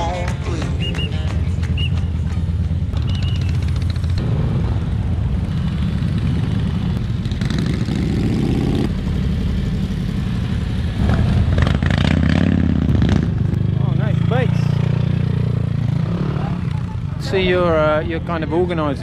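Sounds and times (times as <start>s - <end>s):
motorcycle engines passing: 0.0s - 19.0s
motorcycle engine revving: 1.4s - 17.8s.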